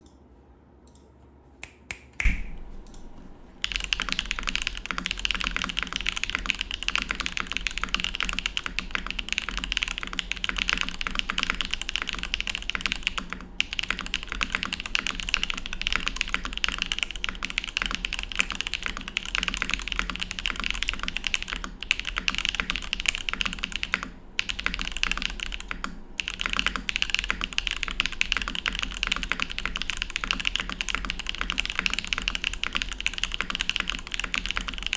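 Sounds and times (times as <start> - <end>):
fast mechanical keyboard typing: 3.6 - 34.9.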